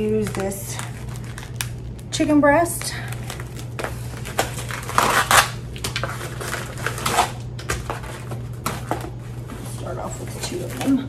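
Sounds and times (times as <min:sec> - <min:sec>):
plastic film tearing and crinkling: 0:00.0 - 0:09.5.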